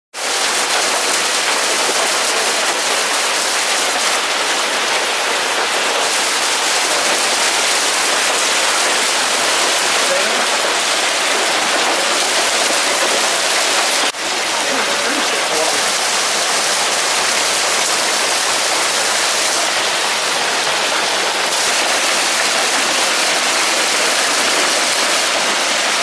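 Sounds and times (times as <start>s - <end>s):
hail falling: 0.2s - 26.0s.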